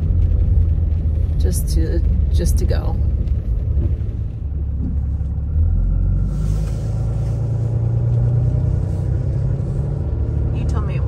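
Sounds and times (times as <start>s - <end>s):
road and engine drone in cab: 0.0s - 11.0s.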